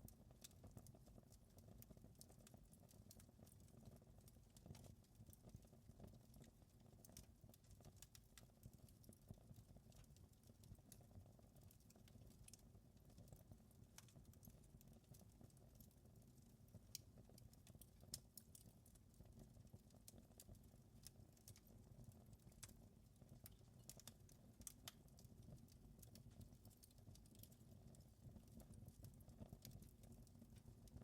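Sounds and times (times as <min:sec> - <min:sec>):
fire crackling and popping: 0:00.0 - 0:31.0
low rumble of fire: 0:00.0 - 0:31.0.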